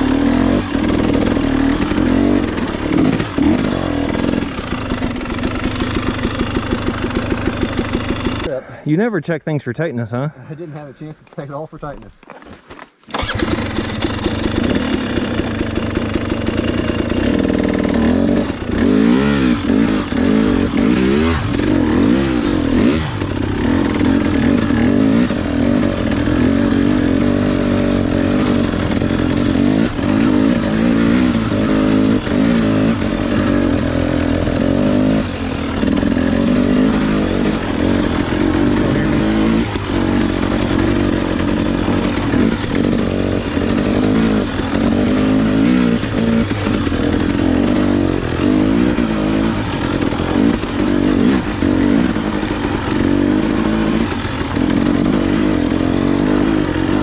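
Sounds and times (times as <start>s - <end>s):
dirt bike engine revving: 0.0s - 8.5s, 13.1s - 57.0s.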